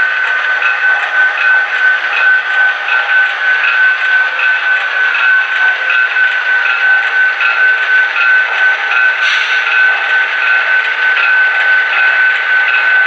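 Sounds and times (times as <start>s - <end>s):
model train running: 0.0s - 13.0s.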